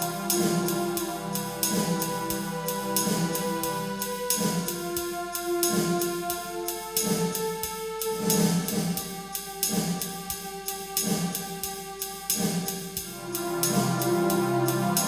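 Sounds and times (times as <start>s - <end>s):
instrumental background music: 0.0s - 15.0s
steady drum beat: 0.0s - 15.0s.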